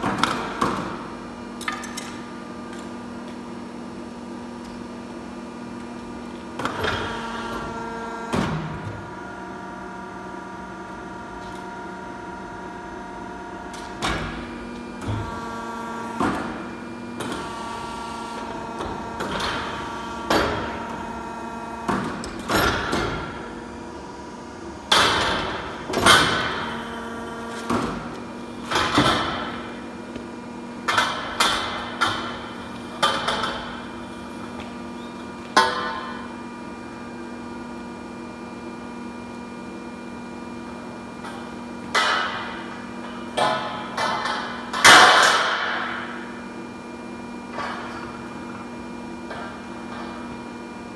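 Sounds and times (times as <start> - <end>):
steady machine hum: 0.0 - 50.9.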